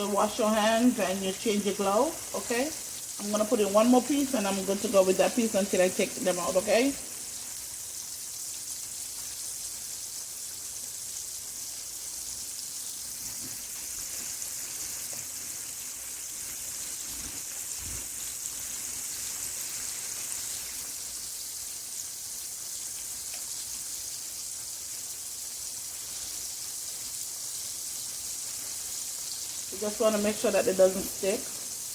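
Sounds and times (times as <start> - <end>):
chicken frying in hot oil: 0.0 - 31.9.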